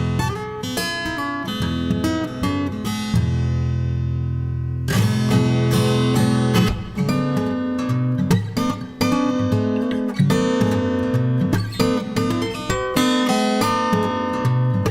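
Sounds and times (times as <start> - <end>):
acoustic guitar chords: 0.0 - 14.9.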